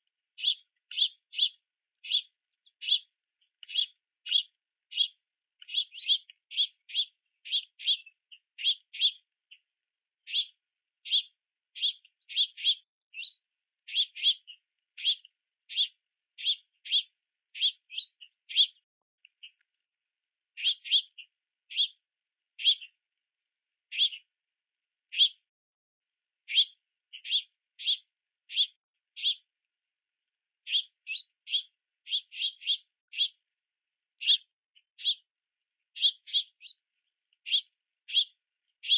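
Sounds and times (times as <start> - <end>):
finches begging chirps: 0.0 - 19.6, 20.5 - 22.0, 22.6 - 23.0, 23.8 - 24.3, 25.1 - 25.4, 26.4 - 29.5, 30.6 - 38.9.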